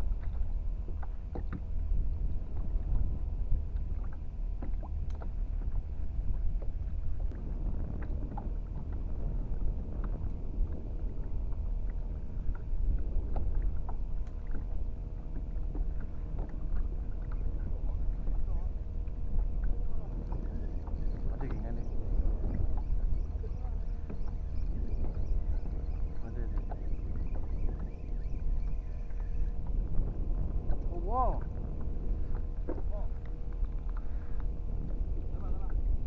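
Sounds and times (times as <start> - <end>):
steady low rumble: 0.0 - 36.0
water against kayak hull: 0.0 - 36.0.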